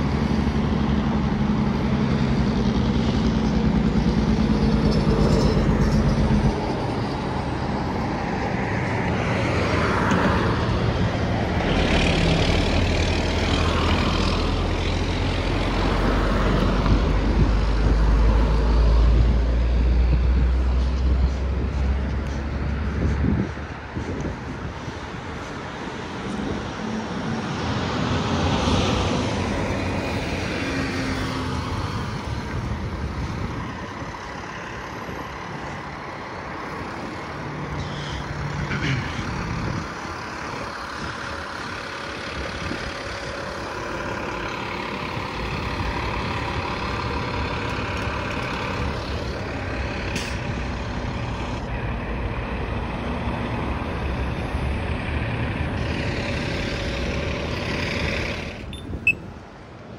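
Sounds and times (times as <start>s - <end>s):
heavy trucks passing: 0.0s - 59.9s
road traffic passing: 0.0s - 59.9s.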